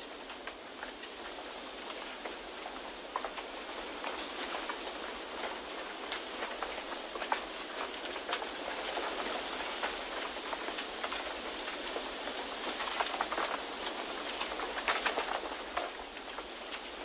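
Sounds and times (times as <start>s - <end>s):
steady white-noise hiss: 0.0s - 17.0s.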